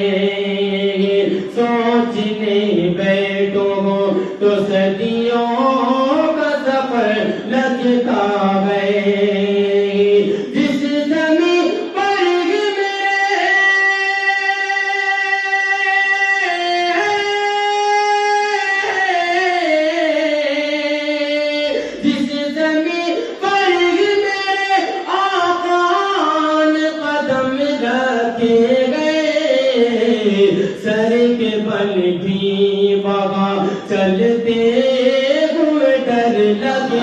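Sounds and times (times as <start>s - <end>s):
man singing solo: 0.0s - 37.0s.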